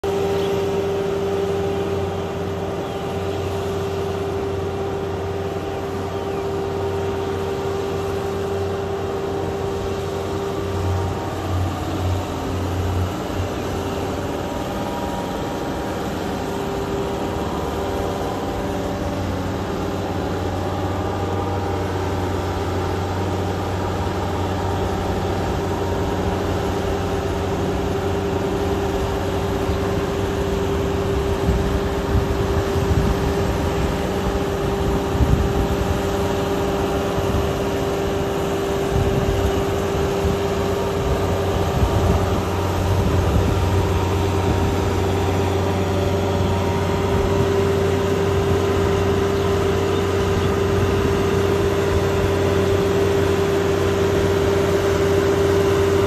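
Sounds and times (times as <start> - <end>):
high hum of rotary tiller: 0.0 - 56.0
tractor engine rumbling: 0.0 - 56.0.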